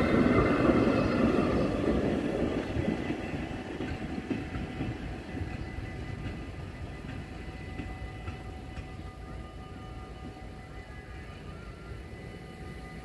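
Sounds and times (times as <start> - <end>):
steam train rumbling on rails: 0.0 - 13.0.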